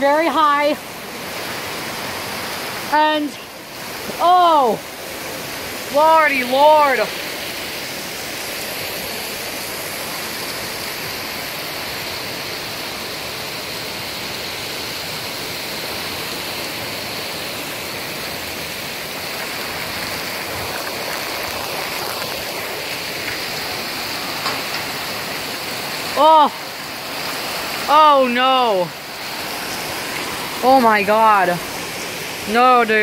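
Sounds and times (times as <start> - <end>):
torrential rain in high wind: 0.0 - 33.0.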